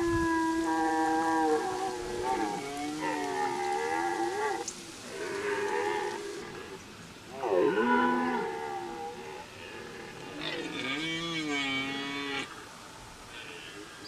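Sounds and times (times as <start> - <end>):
red deer stag roaring: 0.0 - 12.5.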